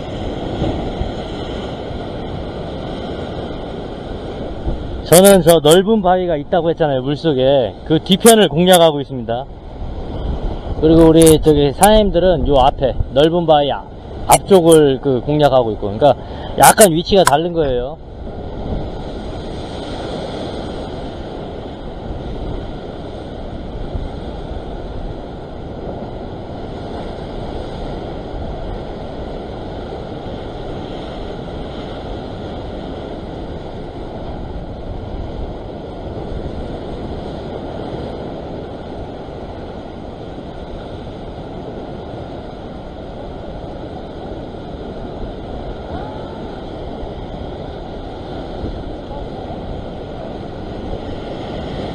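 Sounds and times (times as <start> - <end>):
sea surf washing over rocks: 0.0 - 51.9.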